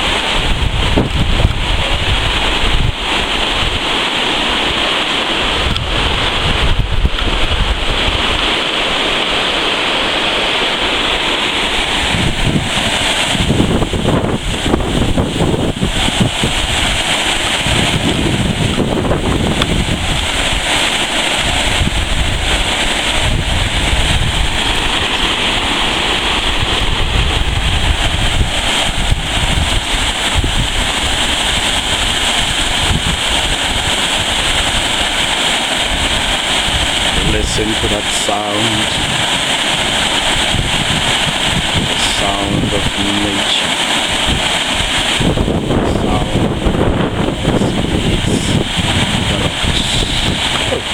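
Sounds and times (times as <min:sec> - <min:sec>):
wind buffeting microphone: 0:00.0 - 0:09.4, 0:11.0 - 0:38.0, 0:38.6 - 0:43.4, 0:44.0 - 0:50.9
waterfall rushing: 0:00.0 - 0:50.9.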